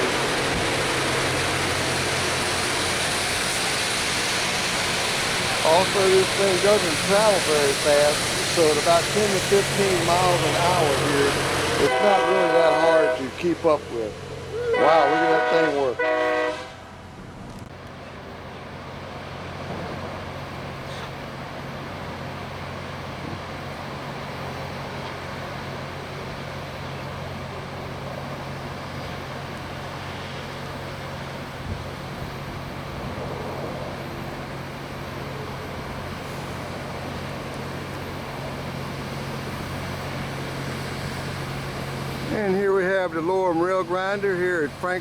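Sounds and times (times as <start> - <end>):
rail grinder engine drone: 0.0 - 45.0.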